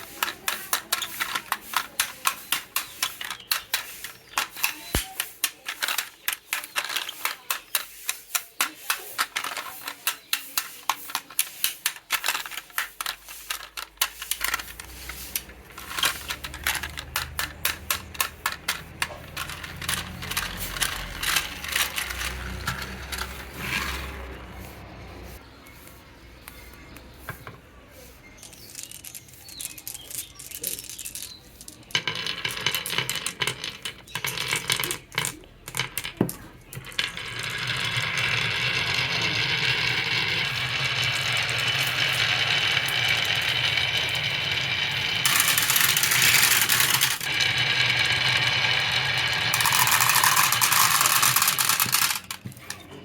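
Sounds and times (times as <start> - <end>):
marbles clattering along a track: 0.0 - 25.4, 27.2 - 53.0.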